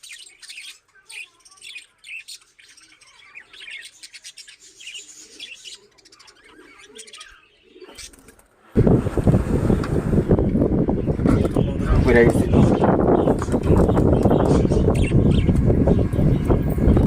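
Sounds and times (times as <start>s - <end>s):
small birds chirping: 0.0s - 8.7s, 9.3s - 17.0s.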